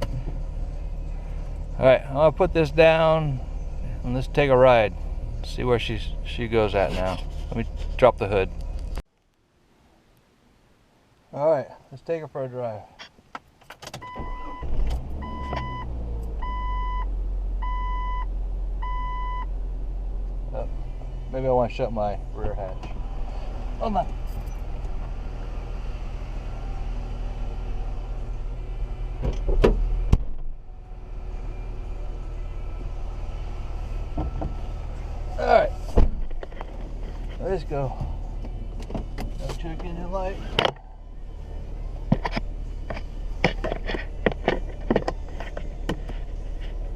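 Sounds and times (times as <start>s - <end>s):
car engine cranking and idling: 0.0s - 9.0s, 12.9s - 46.9s.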